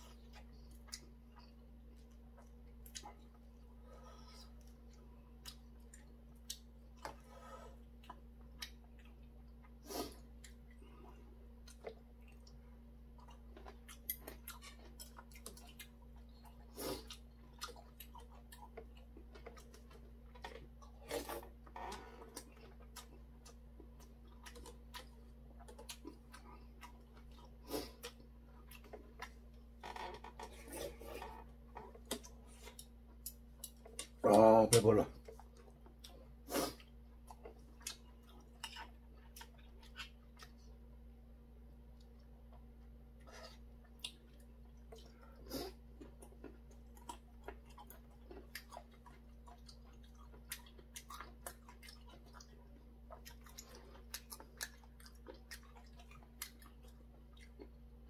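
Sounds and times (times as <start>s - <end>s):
person chewing: 0.0s - 40.9s, 41.8s - 58.0s
steady low hum: 0.0s - 58.0s.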